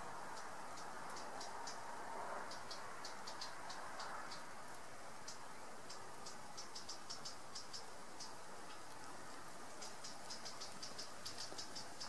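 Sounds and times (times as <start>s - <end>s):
insect chirping: 0.0s - 12.0s
low outdoor hiss: 0.0s - 12.0s.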